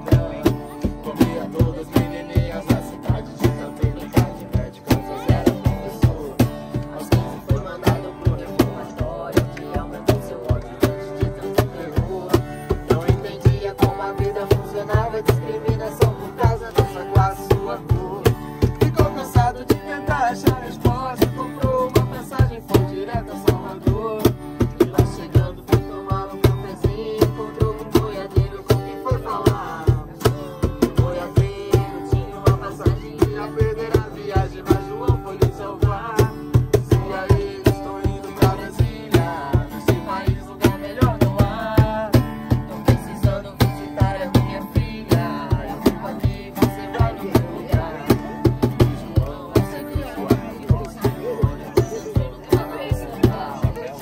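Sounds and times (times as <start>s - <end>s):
acoustic guitar strumming: 0.0s - 54.0s
cajon slapped: 0.0s - 54.0s
person singing: 0.0s - 54.0s.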